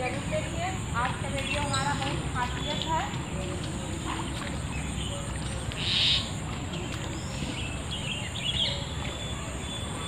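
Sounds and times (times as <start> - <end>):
open-air background noise: 0.0 - 10.0.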